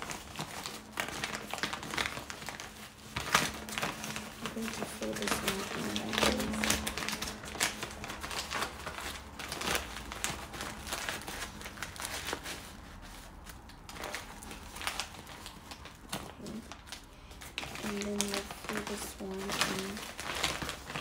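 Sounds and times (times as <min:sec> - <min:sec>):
stiff fabric rustling and crinkling: 0:00.0 - 0:21.0.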